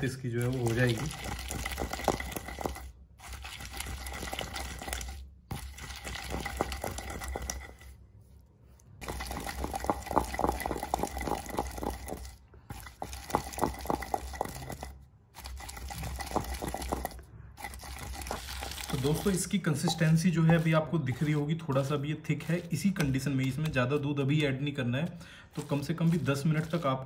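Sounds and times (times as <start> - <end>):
pestle grinding wet paste: 0.0 - 8.0, 8.9 - 24.6, 25.4 - 27.0.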